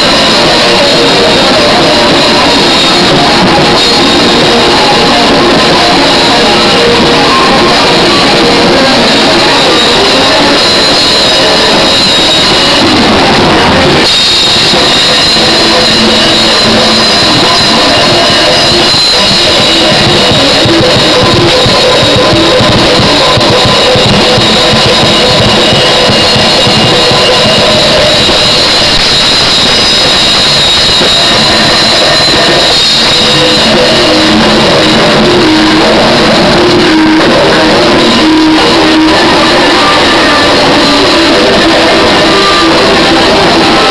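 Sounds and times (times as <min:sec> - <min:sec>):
bass guitar: 0:00.0 - 0:43.9
drum kit: 0:00.0 - 0:43.9
electric guitars: 0:00.0 - 0:43.9.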